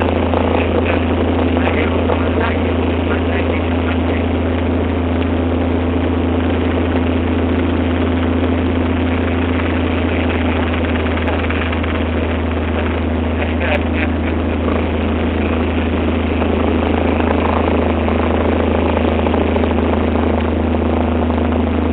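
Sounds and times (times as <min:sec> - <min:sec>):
propeller aircraft engine droning: 0:00.0 - 0:21.9.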